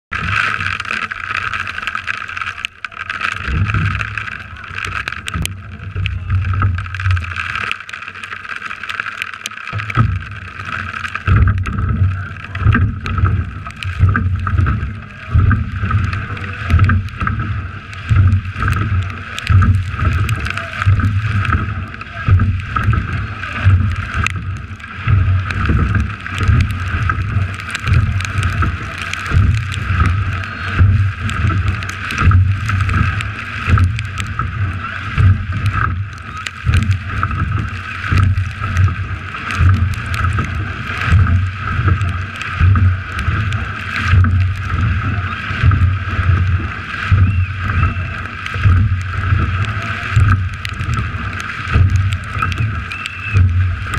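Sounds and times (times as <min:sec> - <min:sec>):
water rushing along hull: 0:00.0 - 0:53.9
wind on microphone: 0:09.8 - 0:53.9.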